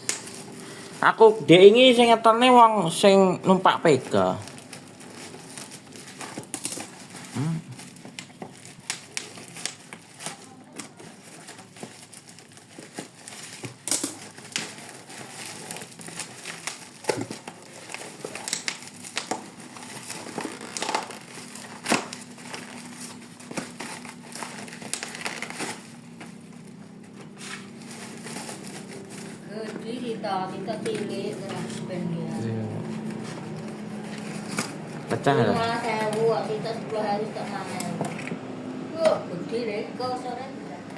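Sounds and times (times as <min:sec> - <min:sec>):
packaging crinkling and rustling: 0:00.0 - 0:38.7.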